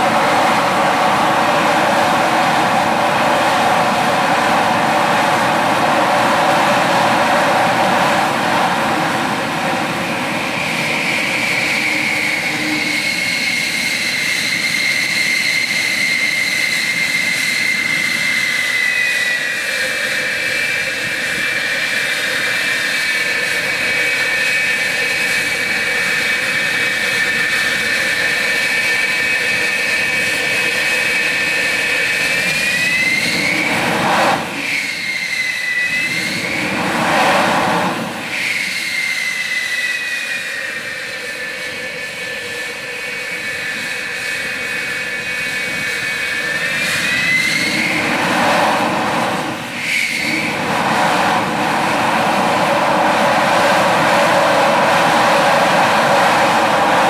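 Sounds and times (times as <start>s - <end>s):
jet engines roaring with whine: 0.0s - 57.0s.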